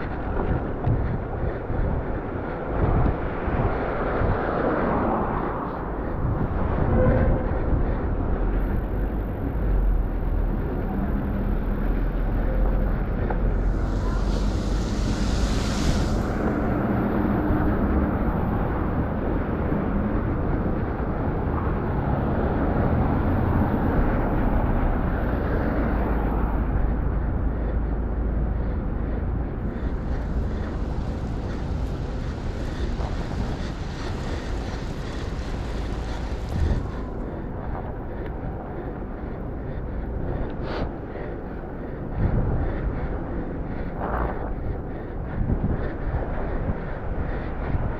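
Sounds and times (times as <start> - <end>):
road noise on wet streets: 0.0 - 47.9
wind on microphone: 0.0 - 47.9.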